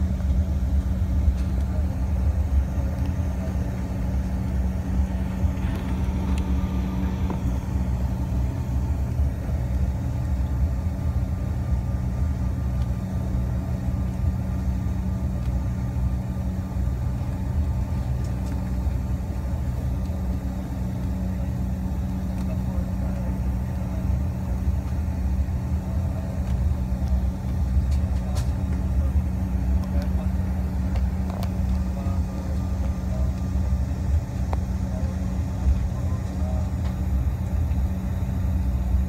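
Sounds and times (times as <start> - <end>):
jet engines and wheels rumbling: 0.0 - 39.0.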